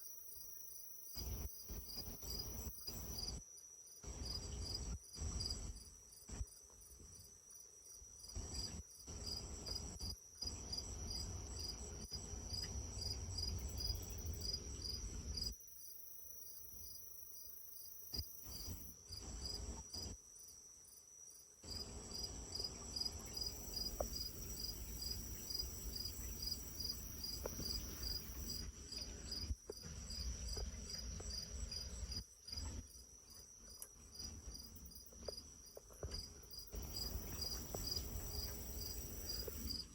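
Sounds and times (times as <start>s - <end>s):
high insect trill: 0.0s - 5.8s, 10.4s - 20.1s, 21.6s - 39.9s
crickets chirping: 0.0s - 39.9s.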